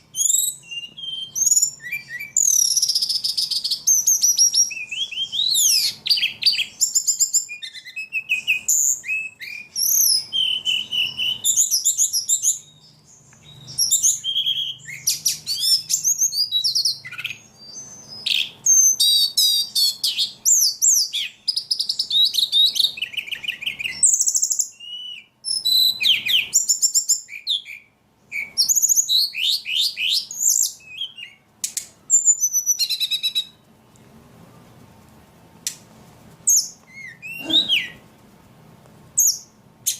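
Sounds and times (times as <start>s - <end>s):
songbird chirping and trilling: 0.0s - 34.7s, 36.4s - 38.1s, 39.1s - 39.9s.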